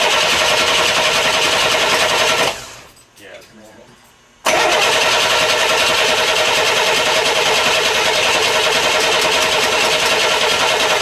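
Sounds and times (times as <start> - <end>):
cooling fan spinning: 0.0 - 11.0.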